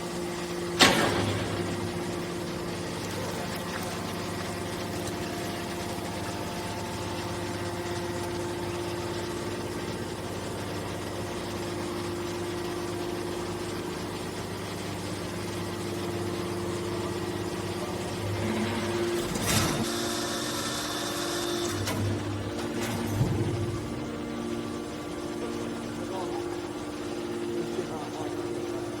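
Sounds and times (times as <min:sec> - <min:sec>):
baler motor and pump humming: 0:00.0 - 0:29.0.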